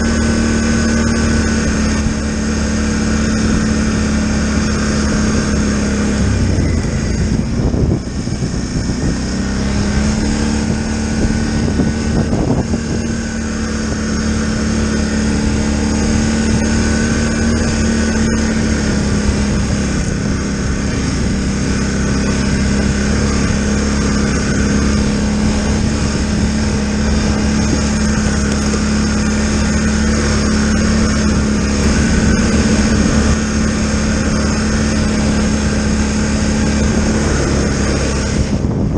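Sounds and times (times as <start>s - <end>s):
atv engine droning: 0.0s - 38.9s.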